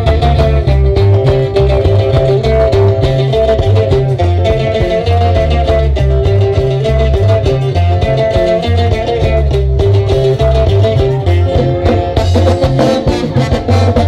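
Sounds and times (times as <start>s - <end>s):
live band playing latin dance music: 0.0s - 14.0s.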